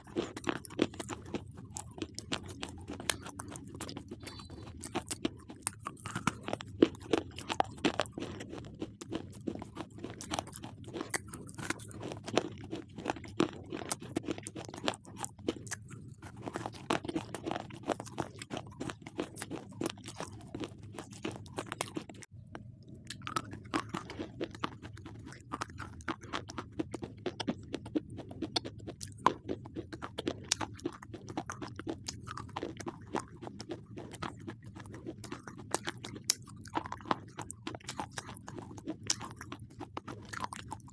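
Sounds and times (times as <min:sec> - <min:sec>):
crunchy chewing of slate: 0:00.0 - 0:40.9.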